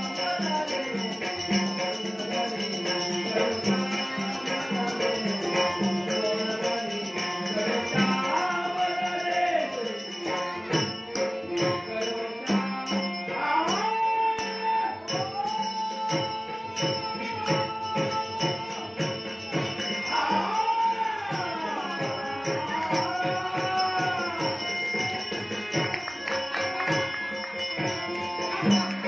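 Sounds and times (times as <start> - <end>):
harmonium: 0.0 - 29.0
man singing: 0.0 - 29.0
small hand cymbals jingling: 0.0 - 29.0.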